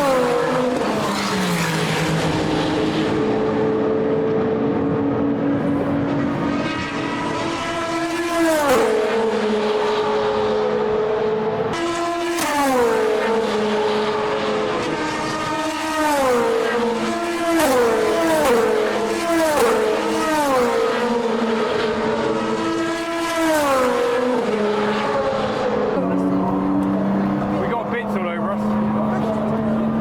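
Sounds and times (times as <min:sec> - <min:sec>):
background engine noise: 0:00.0 - 0:30.0
race cars passing at speed: 0:00.0 - 0:30.0.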